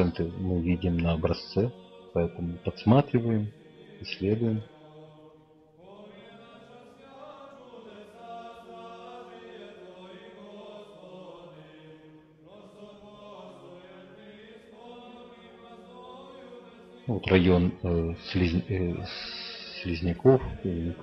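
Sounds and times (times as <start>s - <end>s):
slow vocal chant: 0.0s - 21.0s.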